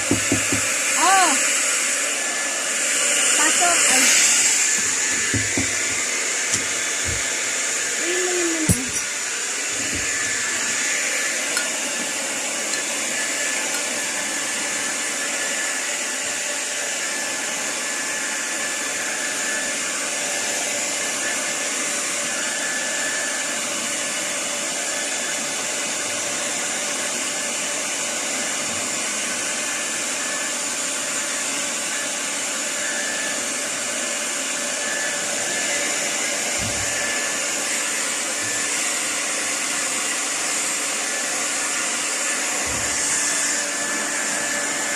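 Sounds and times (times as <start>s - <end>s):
hair dryer running: 0.0s - 44.9s.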